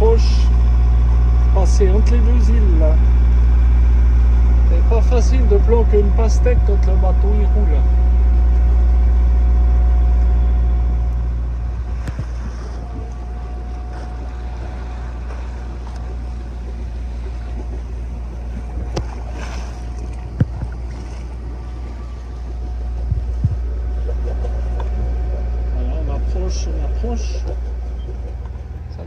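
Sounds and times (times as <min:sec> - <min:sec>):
boat diesel engine humming: 0:00.0 - 0:29.0.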